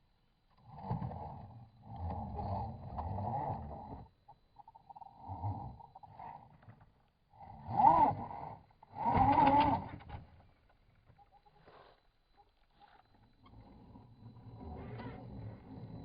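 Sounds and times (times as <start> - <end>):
rc car electric motor whining: 0.5 - 16.0.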